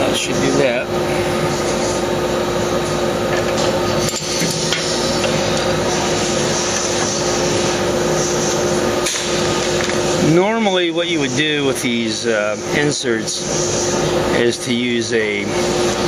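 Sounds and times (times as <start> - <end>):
machine shop hum: 0.0 - 16.0.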